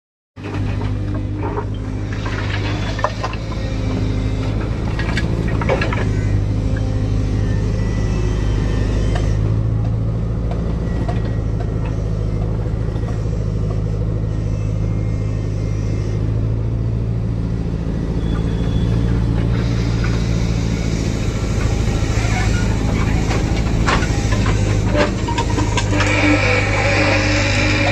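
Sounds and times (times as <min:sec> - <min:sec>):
excavator diesel engine droning: 0:00.4 - 0:27.9.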